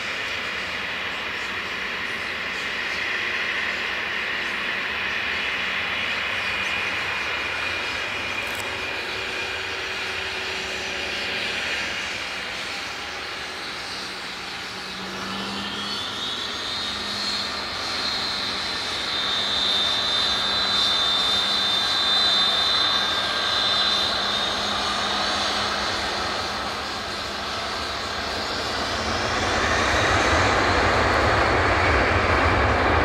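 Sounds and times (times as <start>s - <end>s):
jet engines whining: 0.0s - 33.0s.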